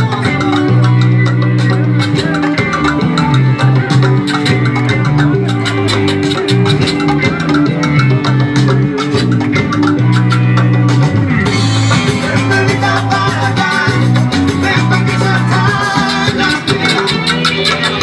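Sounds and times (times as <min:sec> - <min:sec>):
drum kit beat: 0:00.0 - 0:18.0
electric guitar: 0:00.0 - 0:18.0.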